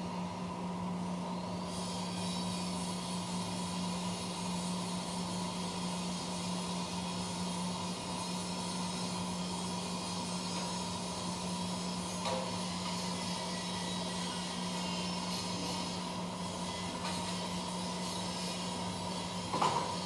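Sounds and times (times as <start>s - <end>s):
cnc machine hum: 0.0s - 20.0s
mid-pitched machine whine: 0.0s - 20.0s.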